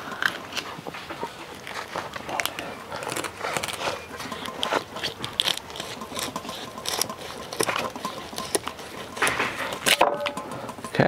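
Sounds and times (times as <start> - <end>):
knife scraping over fish bones: 1.6 - 10.7.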